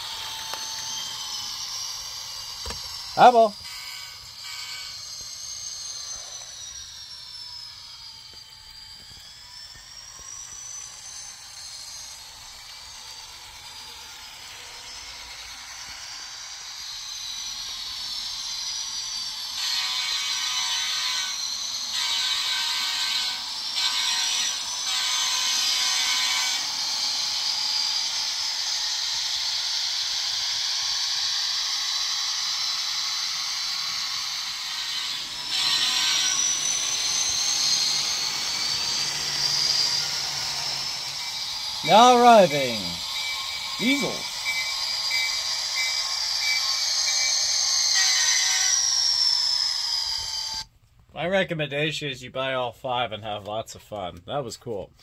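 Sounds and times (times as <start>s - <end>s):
model train motor whine: 0.0s - 50.7s.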